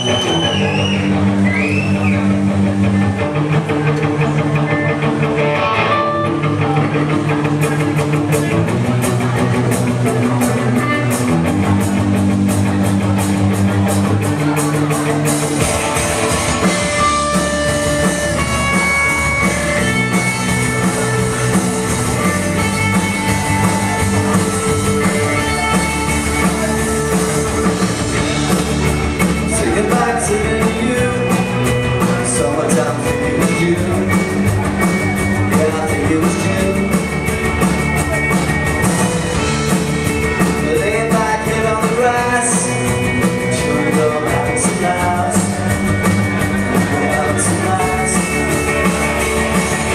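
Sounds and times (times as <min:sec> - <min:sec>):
electric guitar chords: 0:00.0 - 0:49.9
rock band playing: 0:00.0 - 0:49.9.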